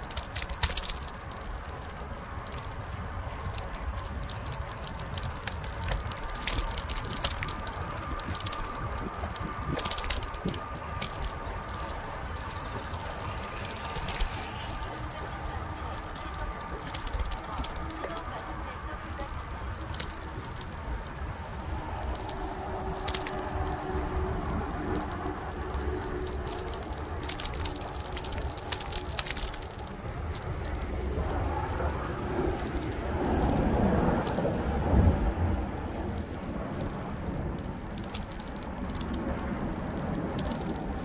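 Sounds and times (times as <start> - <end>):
bicycle tyre rumble on concrete: 0.0 - 41.0
wind on microphone: 2.3 - 41.0.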